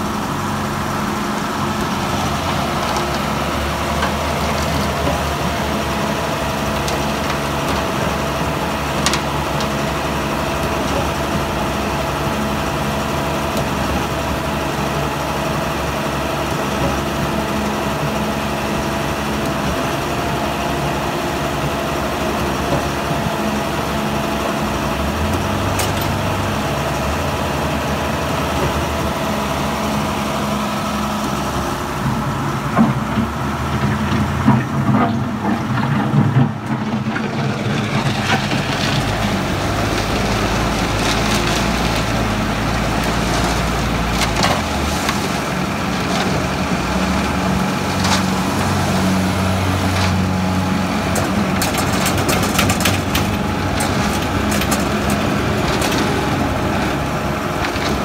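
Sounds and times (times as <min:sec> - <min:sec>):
concrete pump engine hum: 0:00.0 - 0:58.0.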